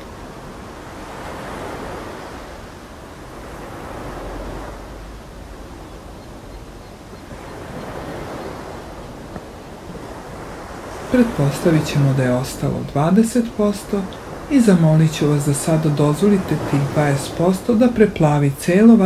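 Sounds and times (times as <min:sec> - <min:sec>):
ocean surf breaking on beach: 0:00.0 - 0:19.0.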